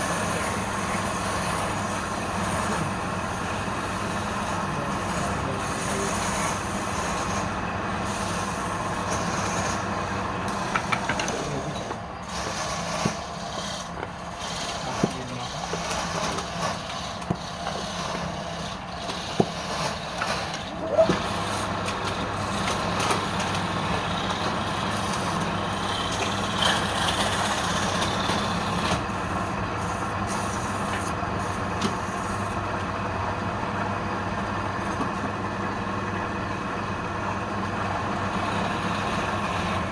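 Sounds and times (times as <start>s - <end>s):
wood lathe motor hum: 0.0s - 39.9s.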